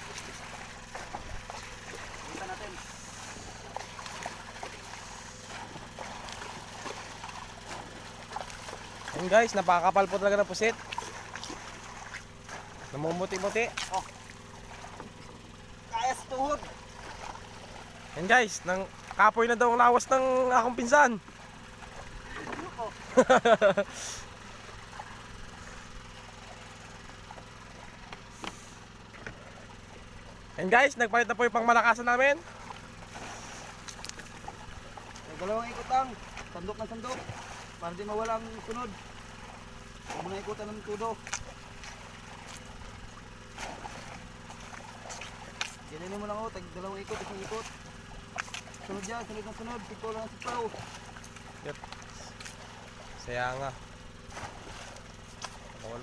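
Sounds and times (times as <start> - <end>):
short splashes and knocks: 0.0 - 56.0
small engine humming: 0.0 - 56.0
water slapping boat side: 0.0 - 56.0.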